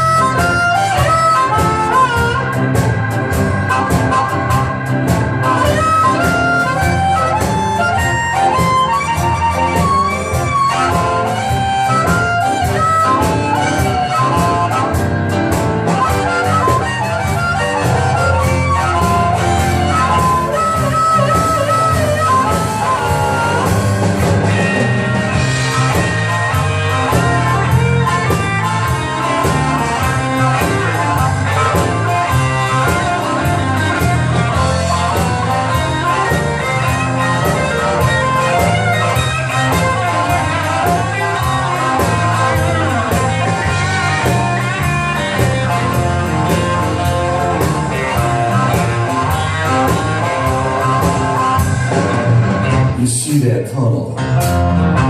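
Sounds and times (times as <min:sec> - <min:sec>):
blues band playing: 0:00.0 - 0:55.0
drum kit beat: 0:00.0 - 0:55.0
guitar: 0:00.0 - 0:55.0.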